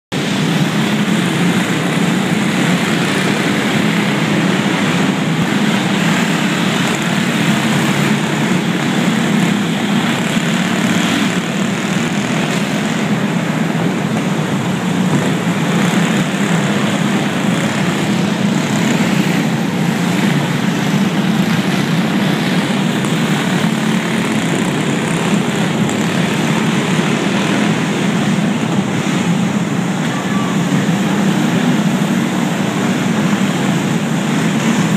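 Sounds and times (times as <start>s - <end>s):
go-kart engines buzzing: 0.1s - 34.9s.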